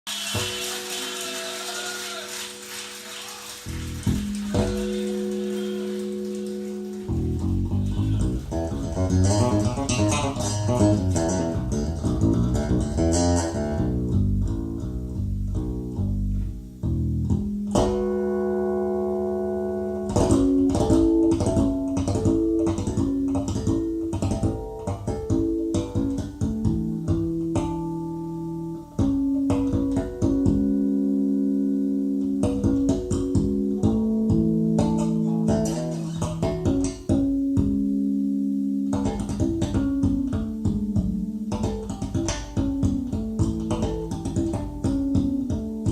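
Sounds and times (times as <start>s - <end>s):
guitar piece over loudspeakers: 0.1s - 45.9s.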